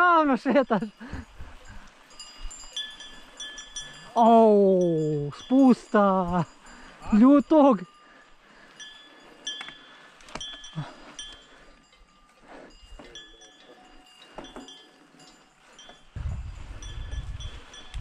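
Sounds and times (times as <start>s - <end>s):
cattle bells clanking: 0.0s - 18.0s.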